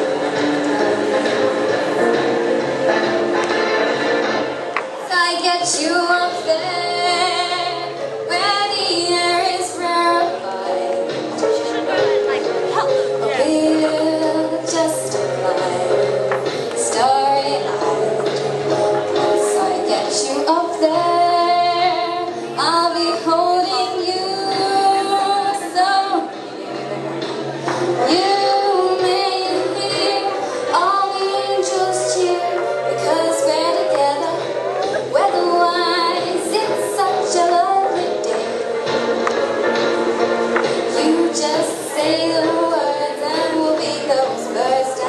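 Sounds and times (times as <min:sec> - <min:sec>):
backing music: 0:00.0 - 0:45.0
woman singing: 0:05.0 - 0:26.4, 0:27.8 - 0:39.0, 0:40.7 - 0:45.0.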